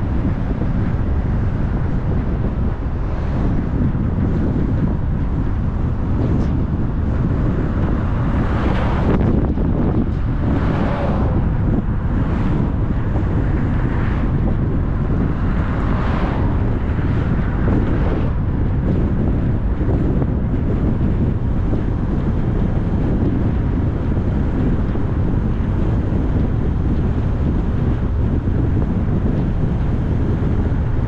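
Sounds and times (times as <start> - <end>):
car road and wind noise: 0.0 - 31.0.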